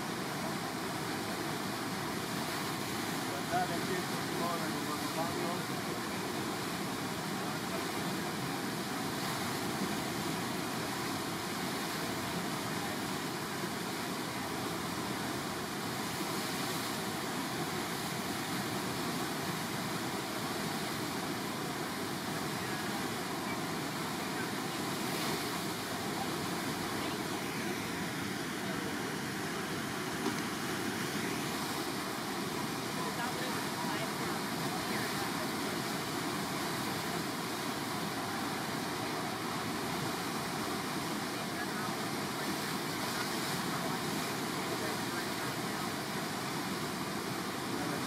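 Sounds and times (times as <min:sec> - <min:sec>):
rushing whitewater: 0:00.0 - 0:48.0.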